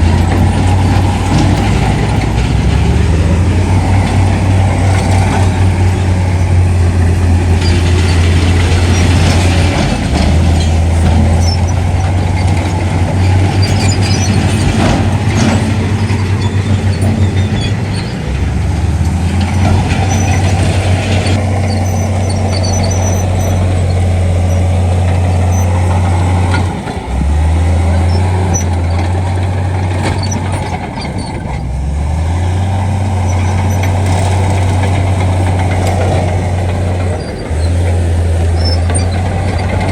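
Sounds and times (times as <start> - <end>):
diesel engine drone: 0.0 - 39.9
rattling clatter: 0.0 - 39.9.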